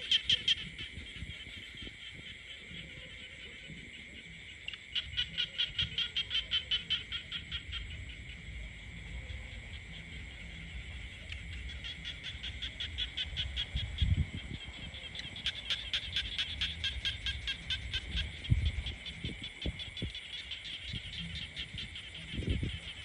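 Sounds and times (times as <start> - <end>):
frogs croaking in chorus: 0.0 - 23.0.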